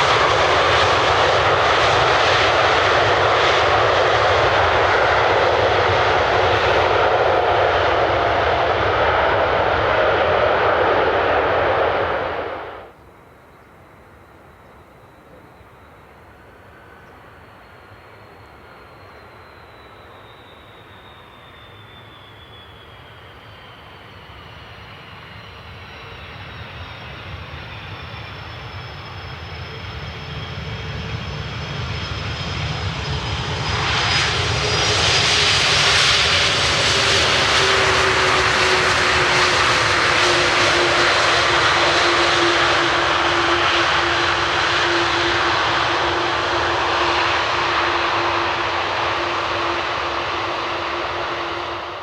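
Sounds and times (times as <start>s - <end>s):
jet engines roaring: 0.0s - 13.0s, 14.0s - 52.0s
thin engine whines: 0.0s - 52.0s.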